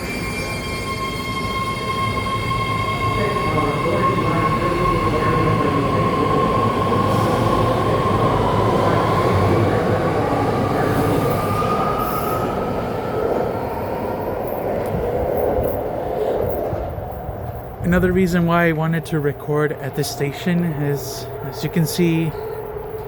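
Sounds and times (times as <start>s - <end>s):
train high whine: 0.0s - 23.0s
train rumble: 0.0s - 23.0s.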